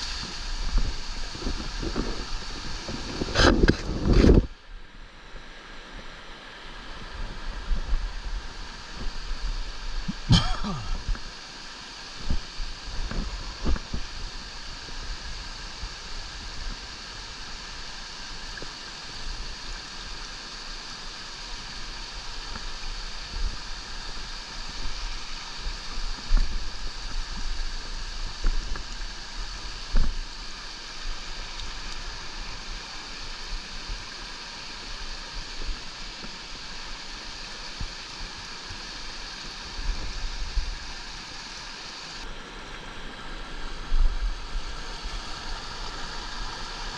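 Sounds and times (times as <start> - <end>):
creek rushing over rocks: 6.7 - 46.9.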